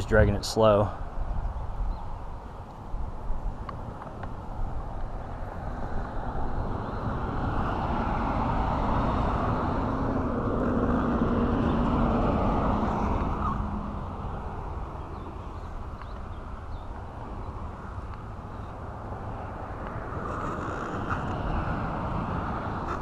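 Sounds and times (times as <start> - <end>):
vehicle passing: 4.4 - 23.0.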